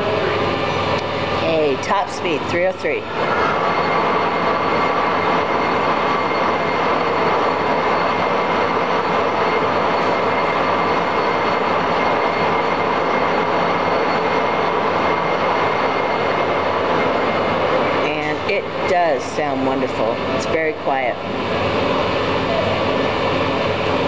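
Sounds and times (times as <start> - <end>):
lathe mechanical hum: 0.0 - 24.0.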